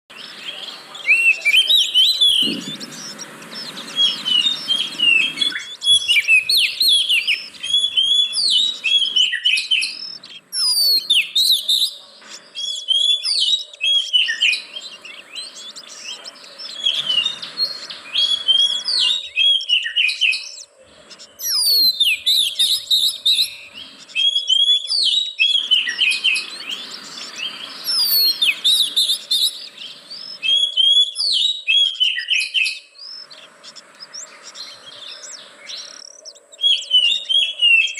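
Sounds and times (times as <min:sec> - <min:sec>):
songbird whistling and chattering: 0:00.1 - 0:37.9.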